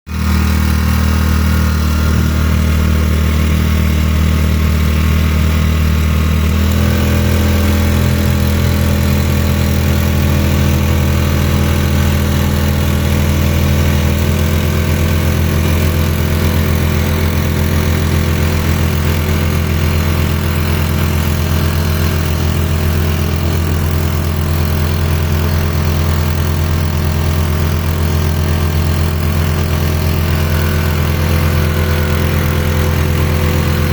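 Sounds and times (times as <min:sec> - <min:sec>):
outboard motor running: 0:00.1 - 0:33.9.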